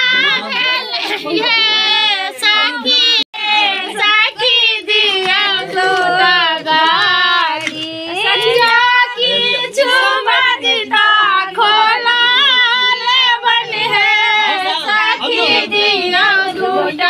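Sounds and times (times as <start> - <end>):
women singing in high voices: 0.0 - 17.0.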